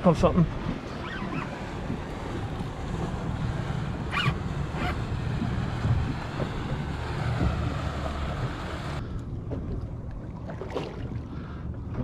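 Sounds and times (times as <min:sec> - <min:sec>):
wind rumbling on microphone: 0:00.0 - 0:12.0
water lapping at boat hull: 0:00.1 - 0:12.0.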